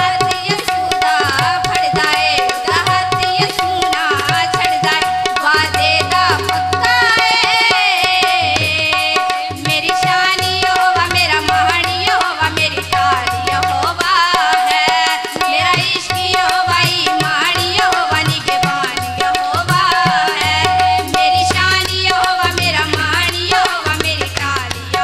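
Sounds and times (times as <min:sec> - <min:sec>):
tabla drumming: 0:00.0 - 0:25.0
women singing: 0:00.0 - 0:25.0.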